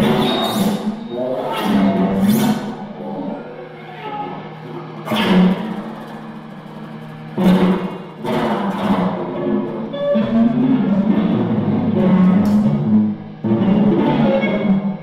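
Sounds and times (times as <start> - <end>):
low guitar drone: 0.0 - 15.0.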